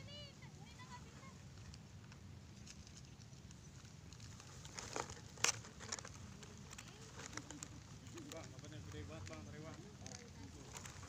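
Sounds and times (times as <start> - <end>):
low outdoor rumble: 0.0 - 11.0
sharp clicks and crackles: 1.5 - 11.0.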